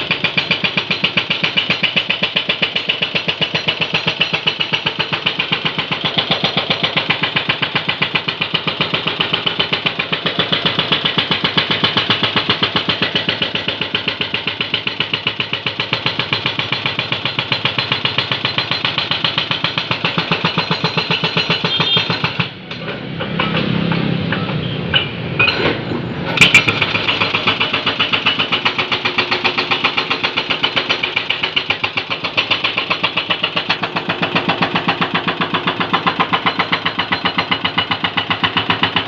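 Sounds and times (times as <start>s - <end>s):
excavator engine running: 0.0s - 20.9s, 26.2s - 39.0s
hydraulic breaker hammering: 0.0s - 25.8s, 26.4s - 39.0s.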